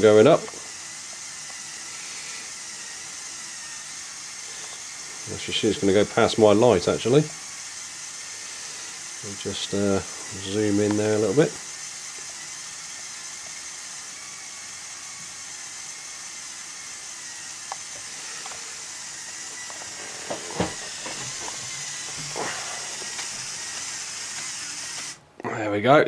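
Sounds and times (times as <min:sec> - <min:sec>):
toy motor whirring: 0:00.0 - 0:25.2.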